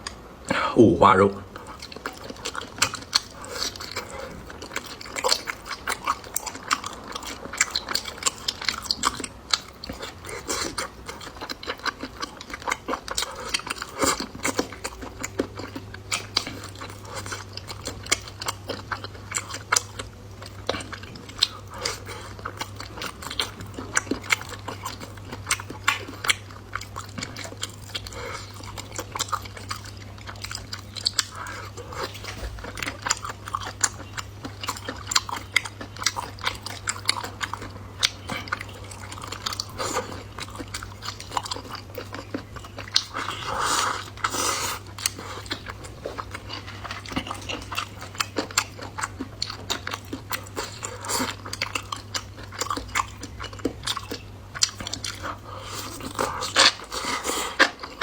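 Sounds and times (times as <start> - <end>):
person chewing food: 1.5 - 58.0.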